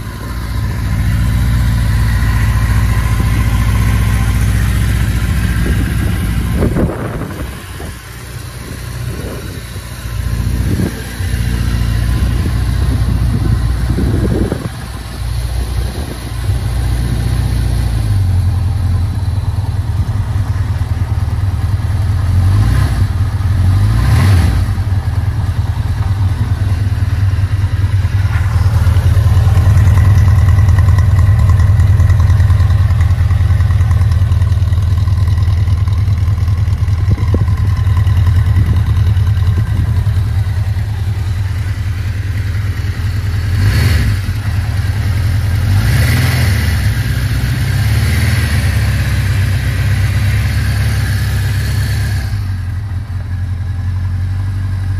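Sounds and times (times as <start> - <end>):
motorcycle engine idling: 0.0 - 23.8, 24.6 - 45.8, 46.6 - 54.9.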